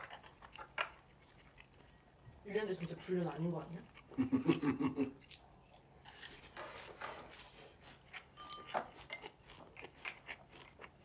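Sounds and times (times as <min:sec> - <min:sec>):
chewing and mouth smacks: 0:00.0 - 0:04.2, 0:05.1 - 0:06.6, 0:07.8 - 0:11.0.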